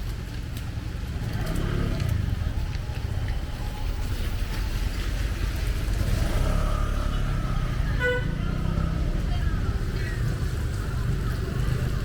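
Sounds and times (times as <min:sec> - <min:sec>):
low rumble of rainy street: 0:00.0 - 0:12.0.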